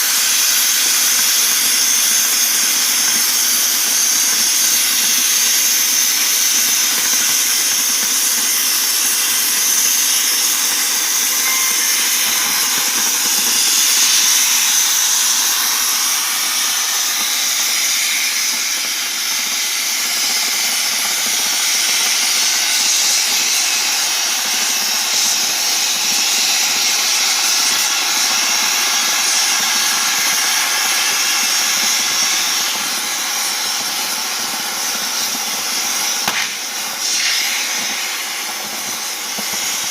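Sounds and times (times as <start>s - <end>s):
cutting torch gas jet hissing: 0.0s - 39.9s.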